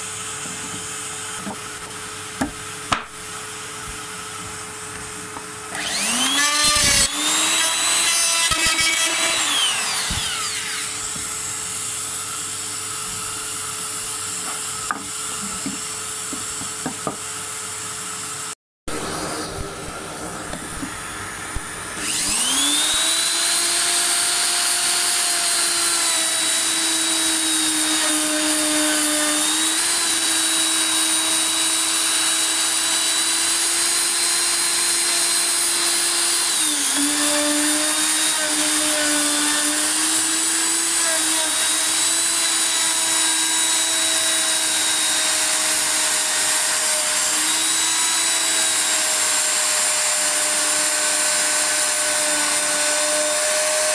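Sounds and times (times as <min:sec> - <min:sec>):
router motor whining: 0:04.8 - 0:17.2, 0:18.2 - 0:53.9.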